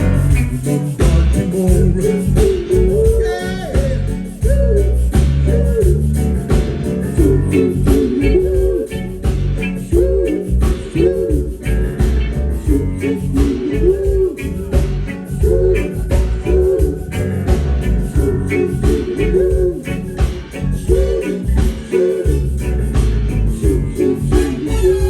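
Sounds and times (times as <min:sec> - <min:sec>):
heavy bass line: 0:00.0 - 0:25.0
reggae band playing: 0:00.0 - 0:25.0
steady drum beat: 0:00.0 - 0:25.0.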